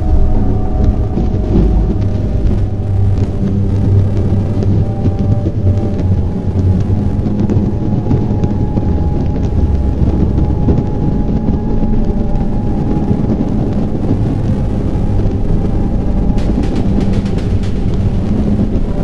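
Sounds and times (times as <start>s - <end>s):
low rumbling synth drone: 0.0s - 19.0s.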